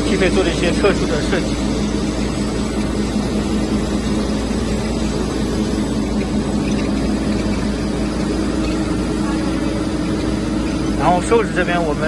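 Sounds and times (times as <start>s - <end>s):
low steady hum: 0.0s - 12.0s
machine conveyor drone: 0.0s - 12.0s.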